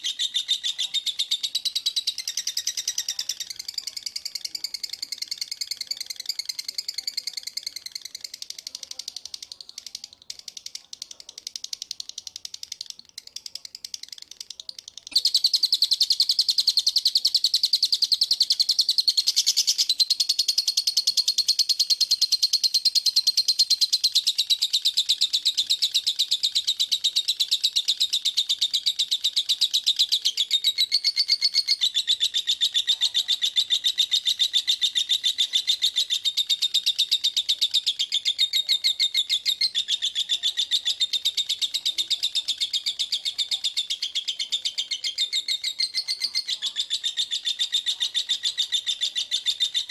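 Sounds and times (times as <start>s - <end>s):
songbird fast high-pitched trill: 0.0s - 49.9s.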